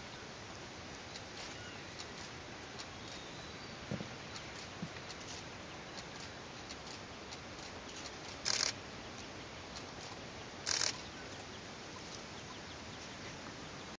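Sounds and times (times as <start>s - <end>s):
rustling of dry leaves: 0.0s - 14.0s.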